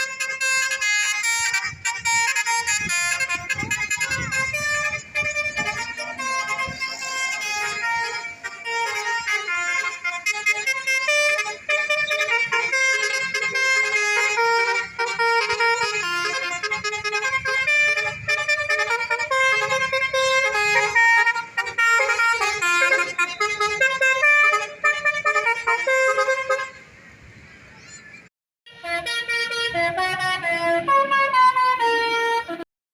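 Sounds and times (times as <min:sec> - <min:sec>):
musical horns playing a melody: 0:00.0 - 0:27.0, 0:28.7 - 0:32.7.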